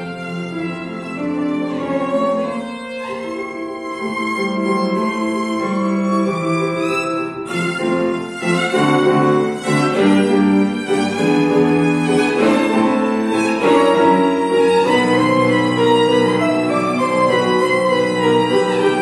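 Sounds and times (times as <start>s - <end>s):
grand piano: 0.0s - 19.0s
violin melody: 0.0s - 19.0s.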